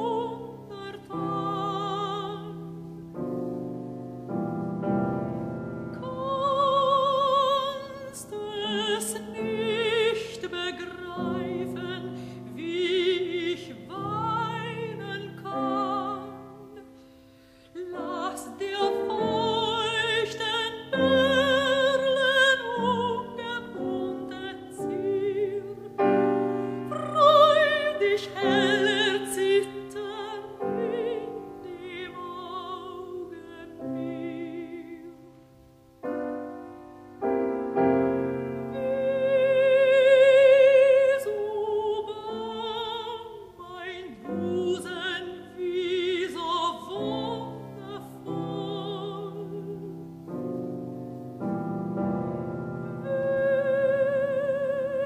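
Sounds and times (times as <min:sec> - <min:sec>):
woman singing: 0:00.0 - 0:03.3, 0:05.6 - 0:17.1, 0:17.7 - 0:36.2, 0:38.4 - 0:50.7, 0:52.0 - 0:55.0
piano accompaniment: 0:00.0 - 0:55.0.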